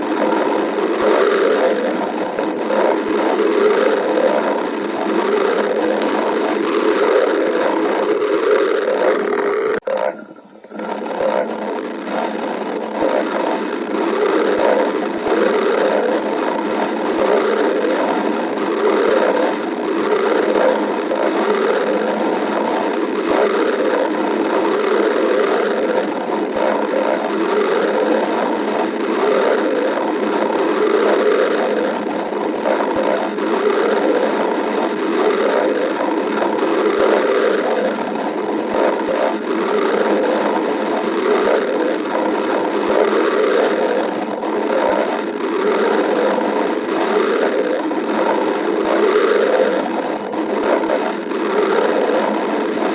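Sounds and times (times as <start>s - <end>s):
stomach growling: 0.0s - 52.9s.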